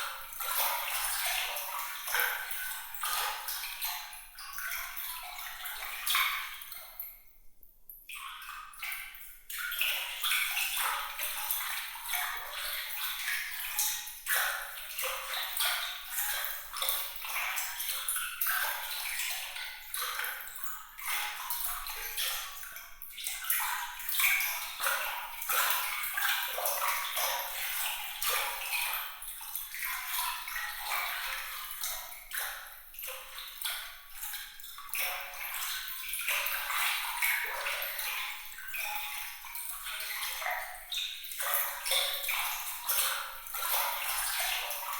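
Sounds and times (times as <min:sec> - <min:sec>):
water trickling and splashing: 0:00.0 - 0:07.3, 0:08.1 - 0:44.9.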